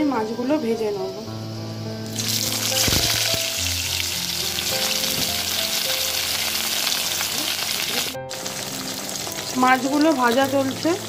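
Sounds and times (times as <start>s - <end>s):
fish sizzling in hot oil: 2.0s - 11.0s.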